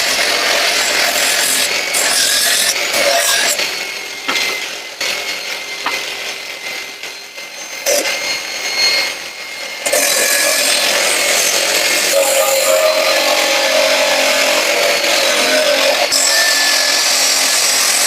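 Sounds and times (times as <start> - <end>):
power tool cutting wood: 0.0 - 18.0.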